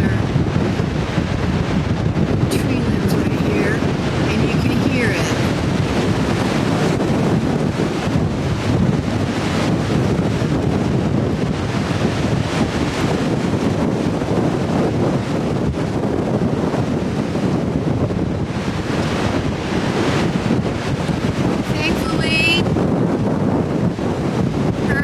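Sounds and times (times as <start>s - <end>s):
wind buffeting microphone: 0.0s - 25.0s
wind rushing through trees: 0.0s - 25.0s.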